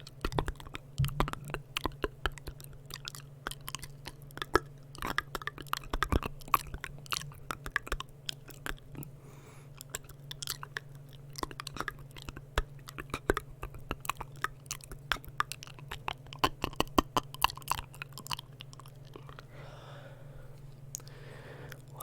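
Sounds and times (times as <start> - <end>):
wet mouth clicks and smacks: 0.0 - 9.1, 9.8 - 19.5
steady low hum: 0.0 - 22.0.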